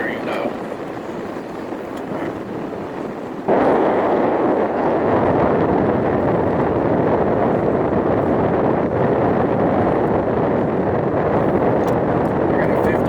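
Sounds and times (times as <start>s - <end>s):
car on wet road from inside: 0.0s - 13.0s.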